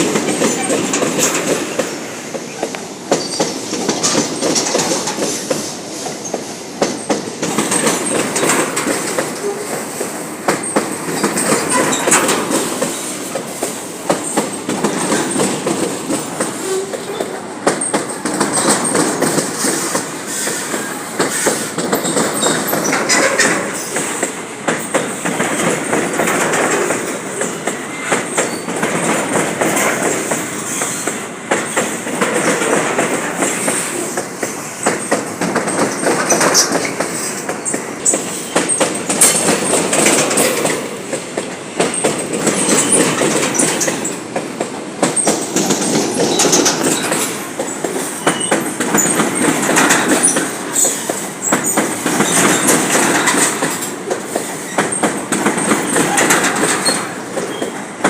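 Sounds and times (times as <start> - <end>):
train wheels clacking on rails: 0.0 - 58.0.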